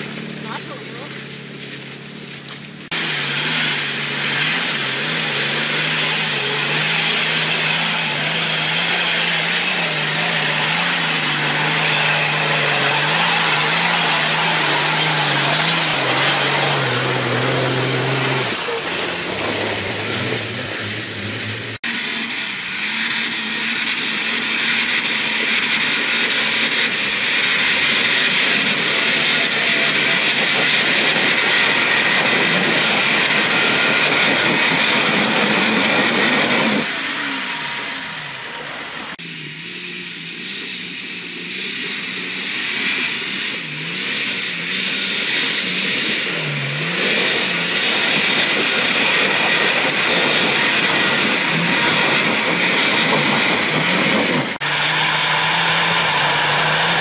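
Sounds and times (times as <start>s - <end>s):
off-road vehicle engines revving: 0.0s - 57.0s.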